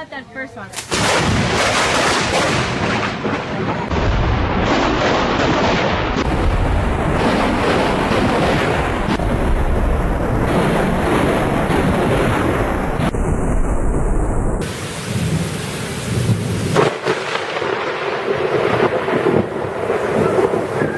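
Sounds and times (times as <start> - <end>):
thunder crackling rumble: 0.9 - 20.9.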